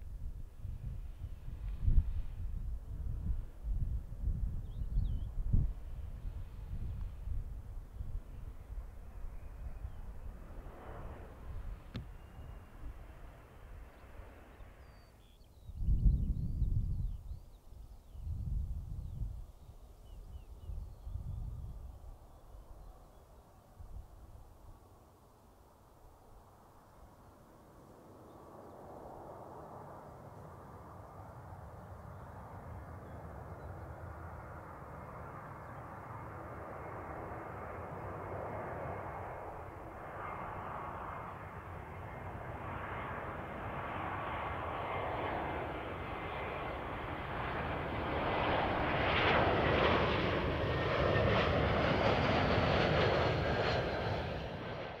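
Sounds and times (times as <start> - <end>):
jet engines of airliner: 0.0 - 55.0.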